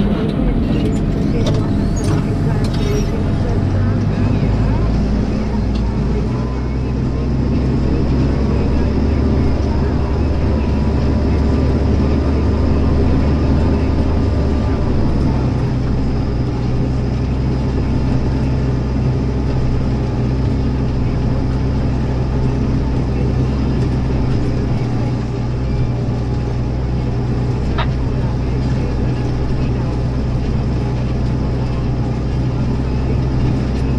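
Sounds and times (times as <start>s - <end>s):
tractor engine under load: 0.0s - 33.9s.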